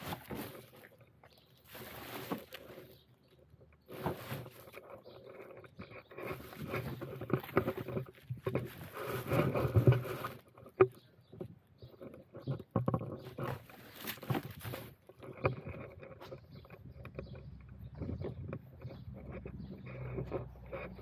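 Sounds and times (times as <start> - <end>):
rubbish rustling and scraping: 0.0 - 21.0.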